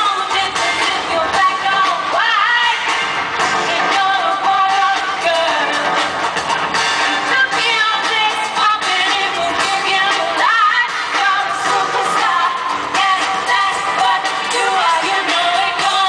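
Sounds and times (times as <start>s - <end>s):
live pop concert music: 0.0s - 16.0s.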